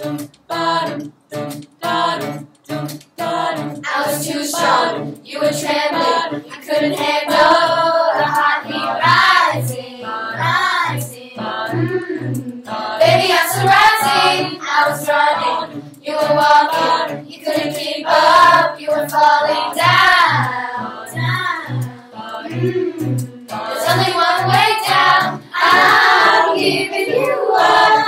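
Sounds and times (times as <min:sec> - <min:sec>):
choir singing in harmony: 0:00.5 - 0:01.0, 0:03.2 - 0:28.0.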